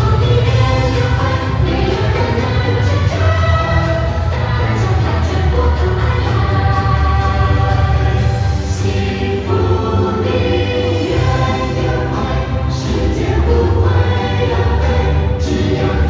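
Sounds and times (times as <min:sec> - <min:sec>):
musical accompaniment with bass: 0:00.0 - 0:16.0
voices singing together: 0:00.0 - 0:16.0.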